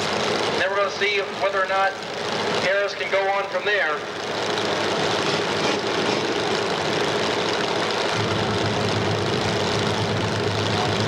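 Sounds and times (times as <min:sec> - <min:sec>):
car engines idling: 0:00.0 - 0:11.0
deep engine rumble: 0:00.0 - 0:11.0.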